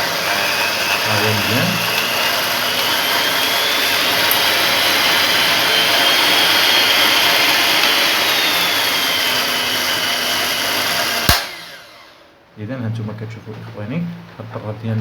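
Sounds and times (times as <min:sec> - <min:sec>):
electric hand mixer motor whining: 0:00.0 - 0:12.4.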